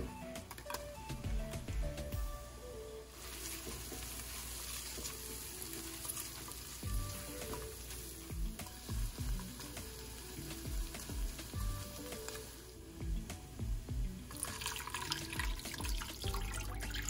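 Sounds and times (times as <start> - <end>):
garlic sizzling in hot oil: 3.0 - 17.0.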